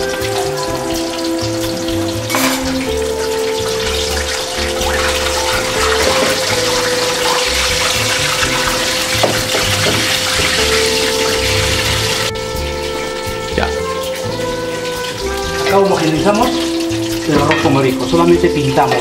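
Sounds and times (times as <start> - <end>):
background music with held tones: 0.0 - 19.0
fish deep-frying in oil: 0.0 - 19.0.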